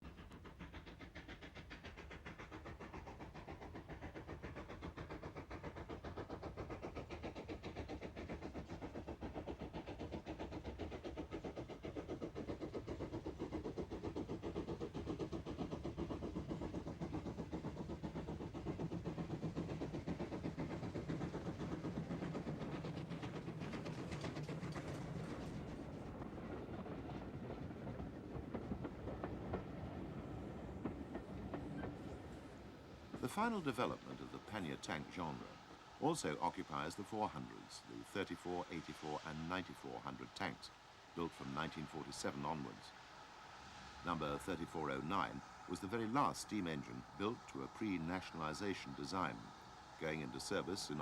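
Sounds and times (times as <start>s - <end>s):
steam locomotive exhaust beating: 0.0s - 51.0s.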